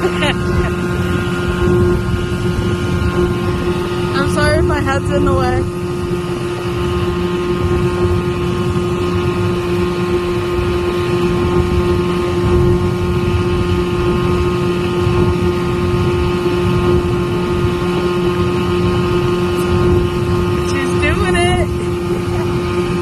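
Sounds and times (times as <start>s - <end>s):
motorboat engine running: 0.0s - 23.0s.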